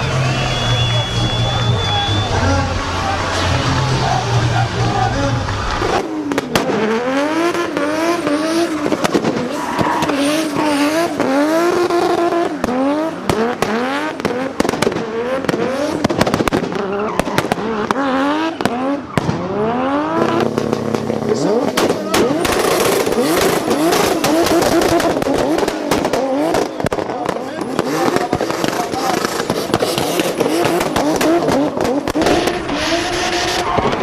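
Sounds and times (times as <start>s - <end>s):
car engine revving hard: 0.0s - 34.0s
exhaust bangs and pops: 0.0s - 34.0s.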